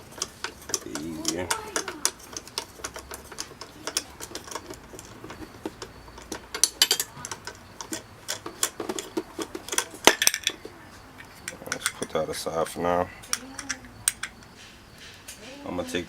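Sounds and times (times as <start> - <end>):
socket ratchet clicking: 0.0 - 10.6, 11.2 - 12.3, 13.2 - 15.4.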